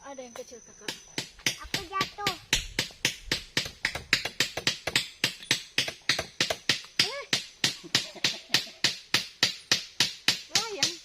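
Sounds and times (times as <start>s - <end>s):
hammer hitting nails into wood: 0.9s - 11.0s.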